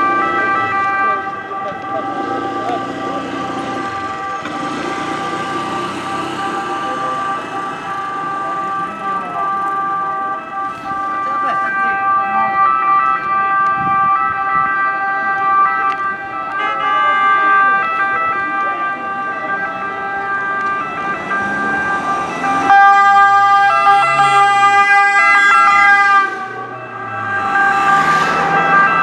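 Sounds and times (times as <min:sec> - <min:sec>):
ambulance sirens: 0:00.0 - 0:29.0
close ambulance siren passing: 0:00.0 - 0:29.0.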